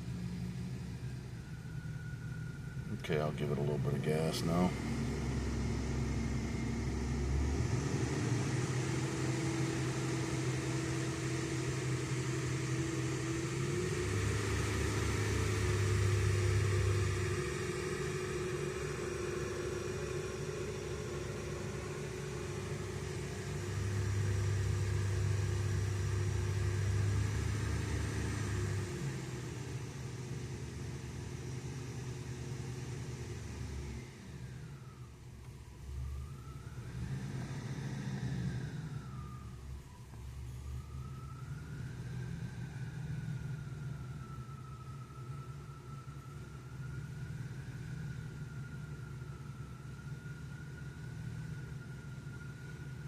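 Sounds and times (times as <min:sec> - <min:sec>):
car engine revving above idle: 0:00.0 - 0:53.0.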